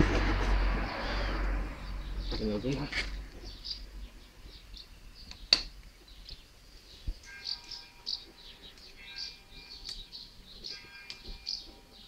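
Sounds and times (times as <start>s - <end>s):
small birds chirping: 0.7s - 12.0s.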